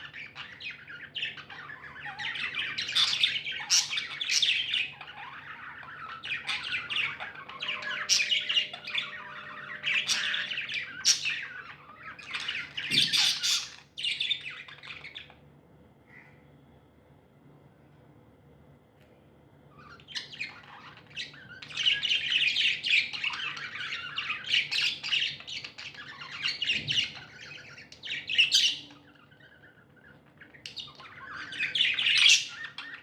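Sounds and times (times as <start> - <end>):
budgies chattering: 0.0 - 15.4, 19.7 - 33.0.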